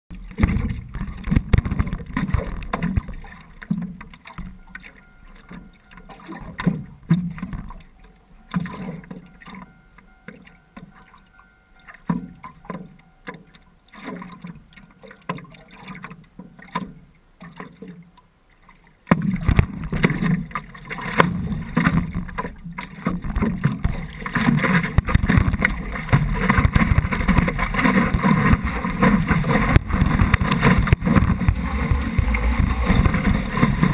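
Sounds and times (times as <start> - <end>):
sea water splashing against board: 0.1 - 33.9.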